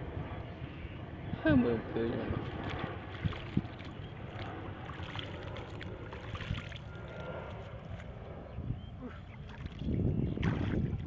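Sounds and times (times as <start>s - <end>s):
jet airliner flying overhead: 0.0s - 11.0s.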